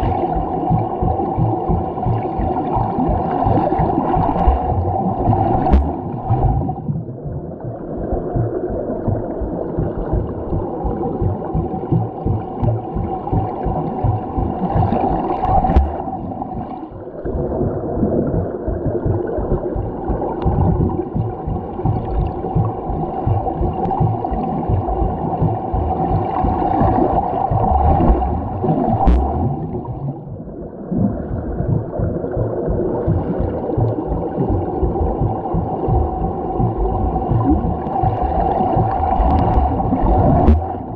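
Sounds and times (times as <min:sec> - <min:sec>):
underwater rushing and bubbling water: 0:00.0 - 0:40.9.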